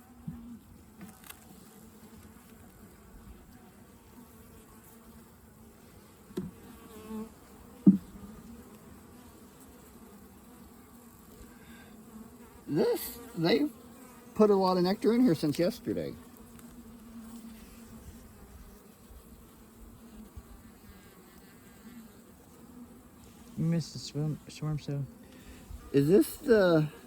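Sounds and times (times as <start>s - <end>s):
bee colony humming: 0.0s - 27.0s
bee flying past buzzing: 0.0s - 27.0s.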